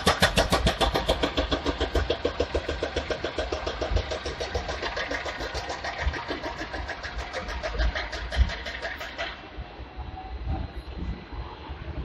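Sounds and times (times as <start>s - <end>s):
tram rattling on tracks: 0.0s - 11.9s.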